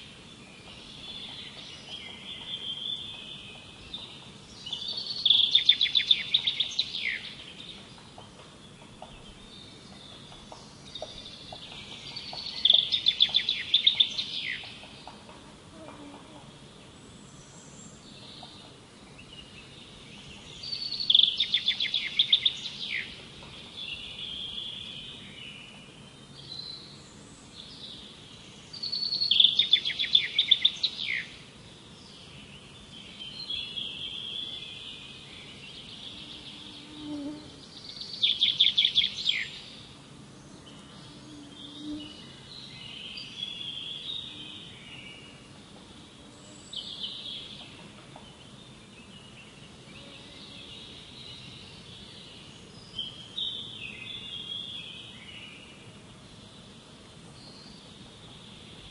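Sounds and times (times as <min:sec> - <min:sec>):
loud rapid trilled birdsong: 0:00.0 - 0:15.4, 0:16.8 - 0:56.8
soft bird chirps and calls: 0:00.0 - 0:58.9.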